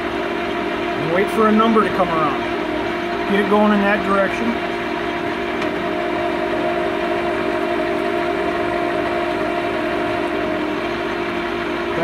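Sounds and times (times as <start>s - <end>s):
lathe gear-train hum: 0.0s - 12.0s.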